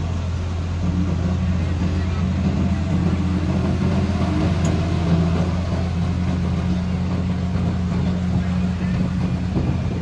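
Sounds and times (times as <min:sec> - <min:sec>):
diesel truck engines droning: 0:00.0 - 0:10.0
car passing: 0:00.8 - 0:09.8.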